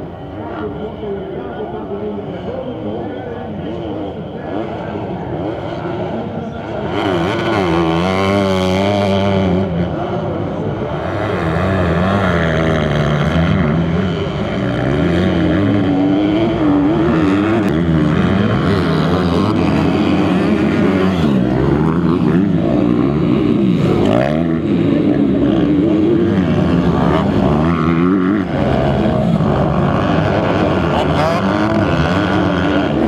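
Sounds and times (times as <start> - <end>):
dirt bike engines racing: 0.0 - 33.0.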